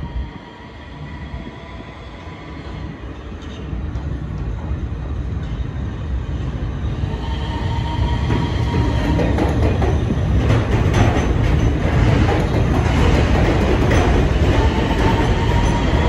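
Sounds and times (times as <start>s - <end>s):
subway train rumbling on tracks: 0.0s - 16.0s.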